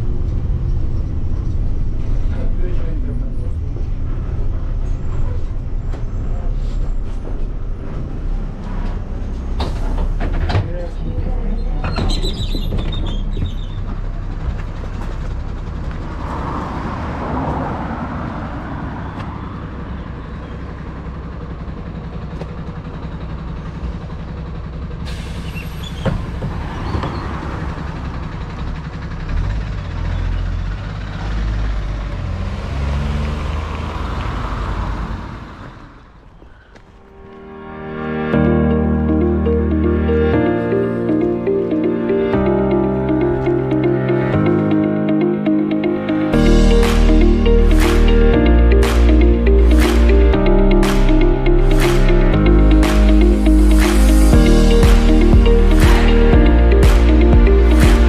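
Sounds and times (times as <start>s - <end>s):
bus diesel engine: 0.0s - 37.2s, 38.4s - 58.0s.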